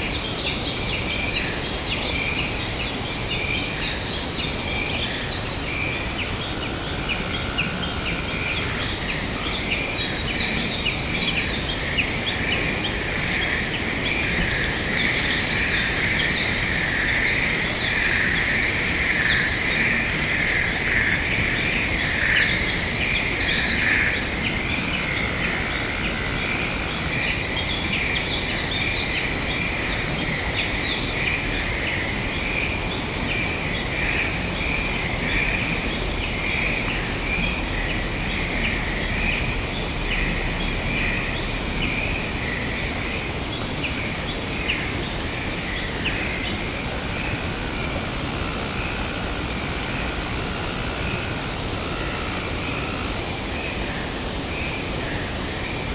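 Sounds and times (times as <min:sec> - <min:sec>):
steady noisy background: 0:00.0 - 0:55.9.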